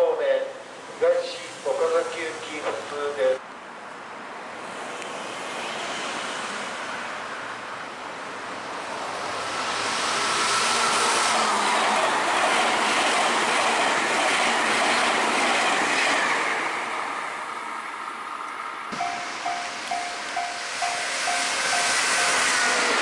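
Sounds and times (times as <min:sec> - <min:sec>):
electric train rail noise: 0:00.0 - 0:23.0.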